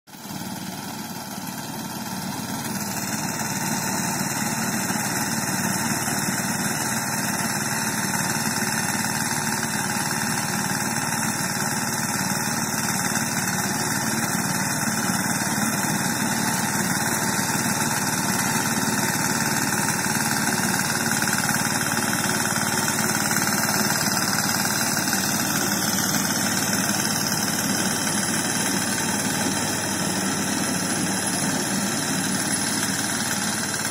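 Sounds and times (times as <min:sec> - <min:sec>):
reaper engine running: 0:00.2 - 0:33.9.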